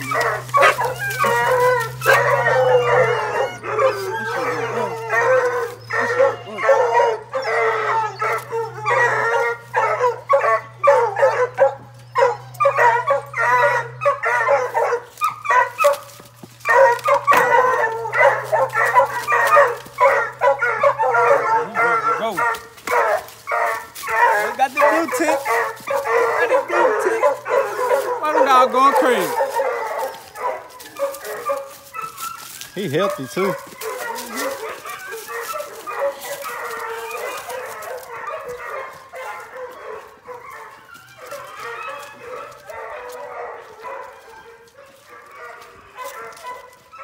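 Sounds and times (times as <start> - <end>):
hounds barking and baying: 0.0 - 47.0.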